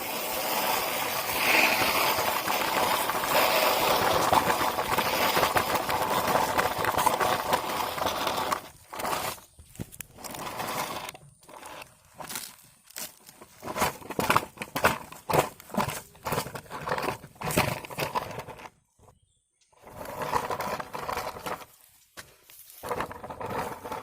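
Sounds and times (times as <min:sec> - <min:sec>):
rustling and crunching handling noises: 0:01.4 - 0:18.8, 0:19.8 - 0:24.0.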